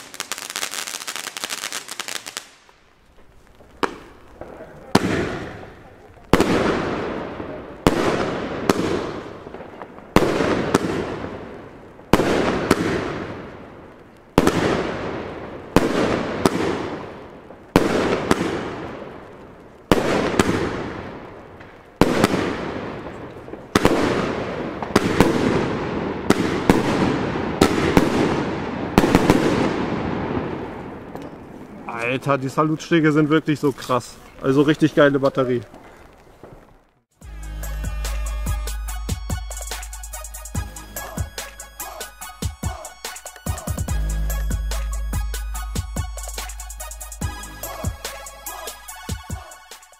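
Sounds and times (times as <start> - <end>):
firework bangs: 0.0 - 32.6, 37.8 - 49.9
firework rumble and crackle: 0.0 - 49.6.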